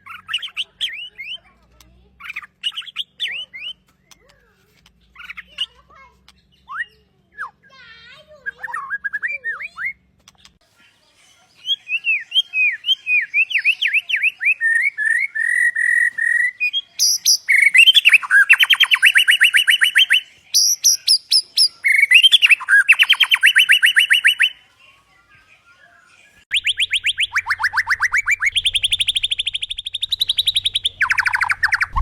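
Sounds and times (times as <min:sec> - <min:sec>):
songbird singing: 0:00.0 - 0:10.6, 0:11.3 - 0:32.0.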